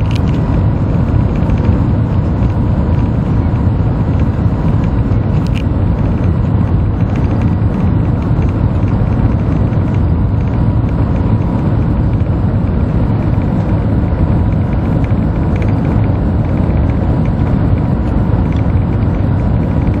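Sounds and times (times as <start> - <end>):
maglev train low rumble: 0.0 - 20.0.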